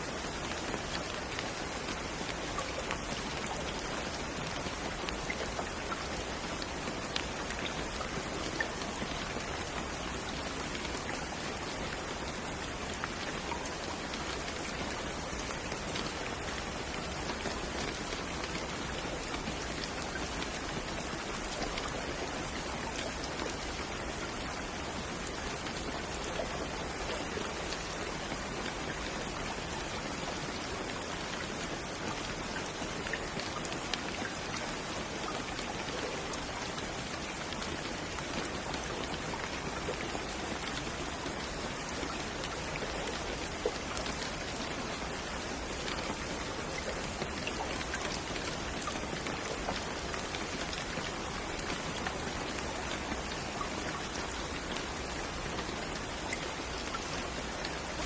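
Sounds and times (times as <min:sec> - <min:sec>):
raindrops pattering on a surface: 0:00.0 - 0:58.0
steady rain falling: 0:00.0 - 0:58.0.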